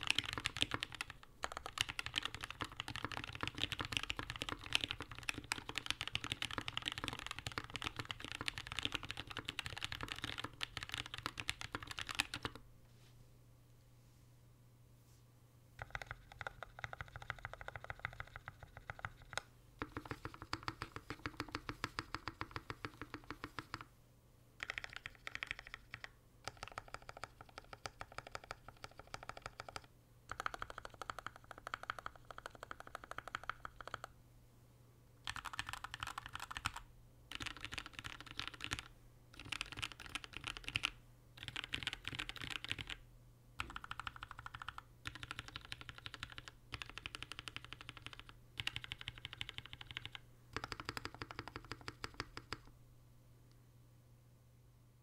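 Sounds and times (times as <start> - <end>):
mechanical keyboard typing: 0.0 - 12.6, 15.8 - 23.9, 24.6 - 34.1, 35.2 - 43.0, 43.6 - 52.7.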